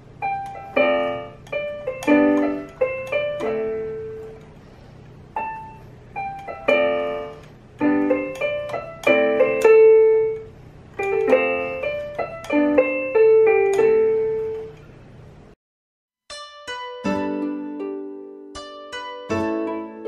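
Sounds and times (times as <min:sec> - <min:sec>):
electronic keyboard piano chords: 0:00.0 - 0:14.9, 0:16.4 - 0:20.0.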